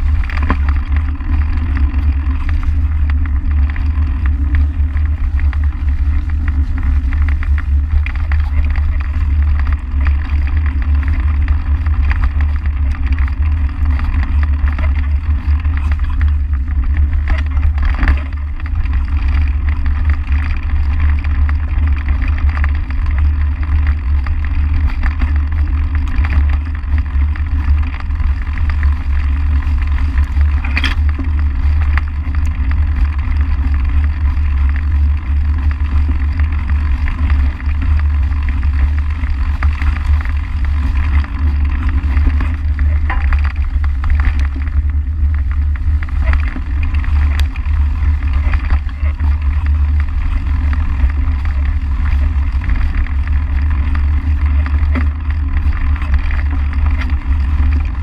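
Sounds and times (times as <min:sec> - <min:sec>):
bike tyres on leafy dirt trail: 0:00.0 - 0:58.0
wind rumble on microphone: 0:00.0 - 0:58.0.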